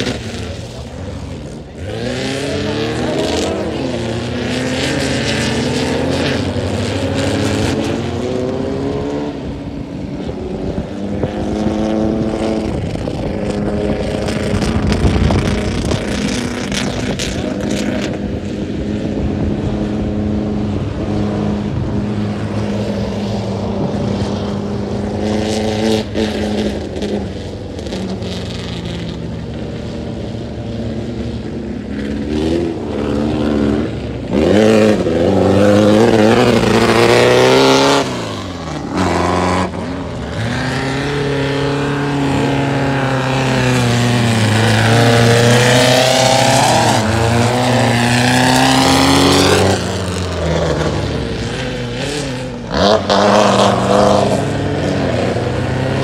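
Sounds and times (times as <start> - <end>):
buggy engines revving: 0.0 - 56.0.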